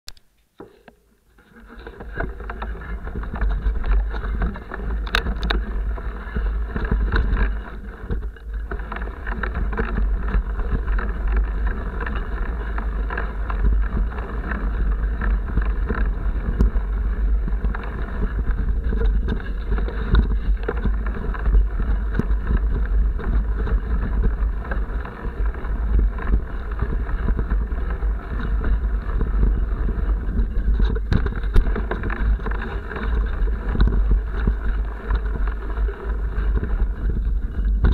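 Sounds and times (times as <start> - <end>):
bike rattles and knocks: 0.6 - 37.9
bike tyre noise: 0.6 - 37.9
wind rumble on microphone: 1.3 - 37.9.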